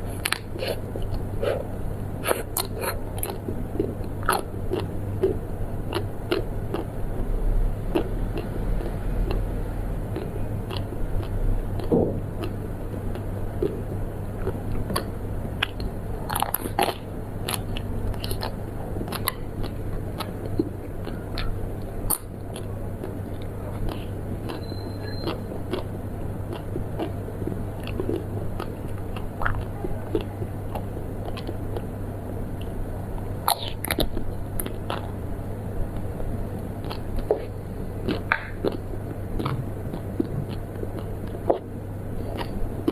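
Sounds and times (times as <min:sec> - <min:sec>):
chewing crunchy sweets: 0:00.0 - 0:42.9
steady low hum: 0:00.0 - 0:42.9.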